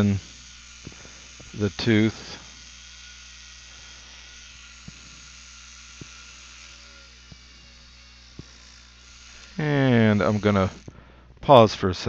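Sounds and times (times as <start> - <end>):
dental drill humming and whining: 0.0 - 11.7.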